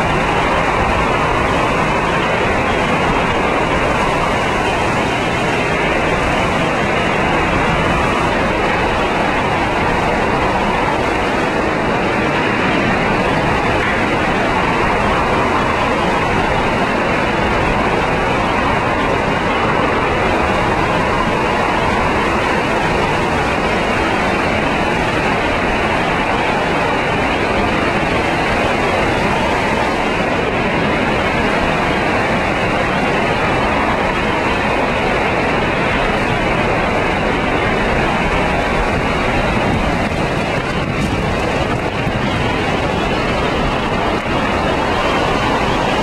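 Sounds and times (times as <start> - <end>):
loud hurricane wind: 0.0 - 46.0.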